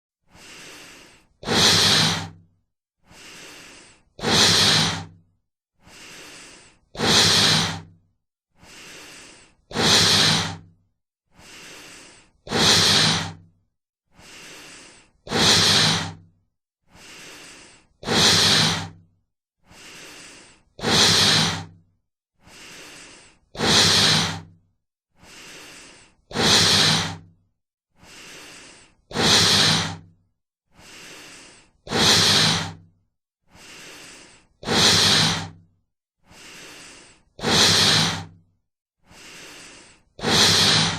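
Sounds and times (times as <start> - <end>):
heavy human breathing: 0.2 - 40.9.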